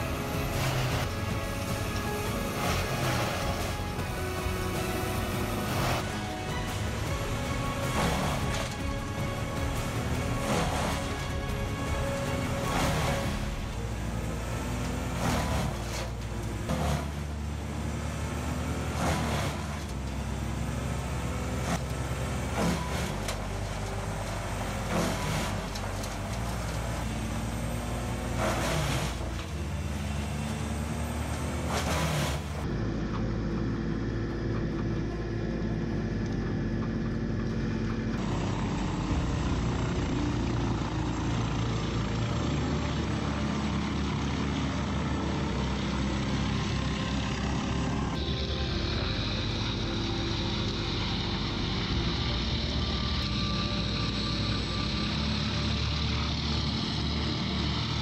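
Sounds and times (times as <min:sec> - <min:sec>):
tree chipper running steadily: 0:00.0 - 0:58.0
wood chipper engine under load: 0:00.0 - 0:58.0.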